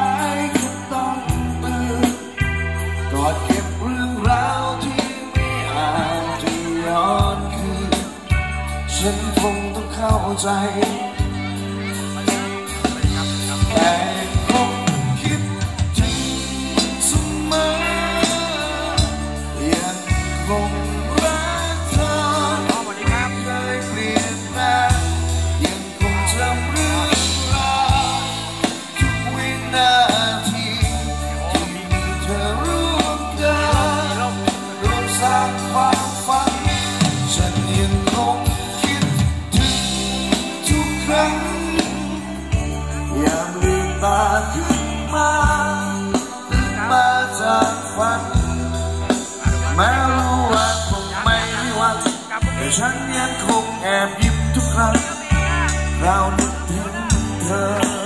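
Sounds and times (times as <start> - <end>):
band music through loudspeakers: 0.0 - 58.0.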